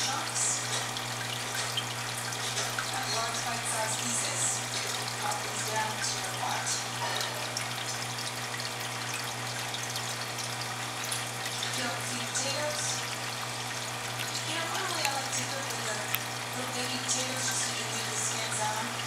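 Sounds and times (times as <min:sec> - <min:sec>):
aquarium water bubbling: 0:00.0 - 0:19.0.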